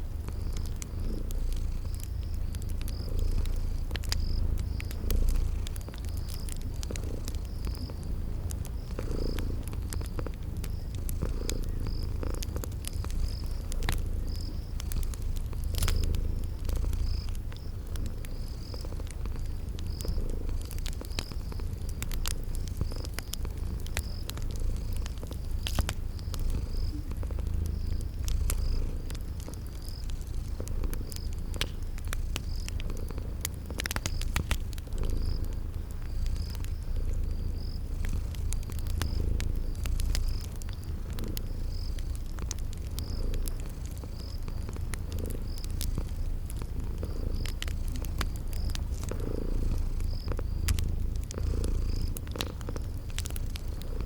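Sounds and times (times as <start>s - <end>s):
cat purring: 0.0s - 54.0s
cricket chirping: 0.0s - 54.0s
wood fire crackling: 0.0s - 54.0s.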